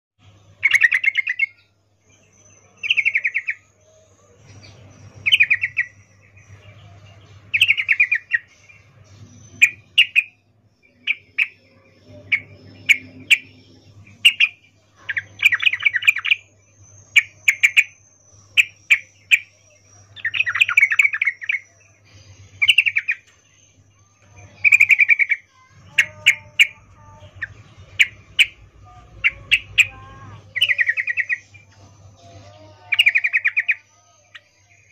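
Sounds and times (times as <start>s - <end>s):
bird chattering chirps: 0.6s - 1.6s, 4.8s - 6.3s, 7.5s - 8.6s, 9.3s - 23.3s, 24.4s - 34.9s.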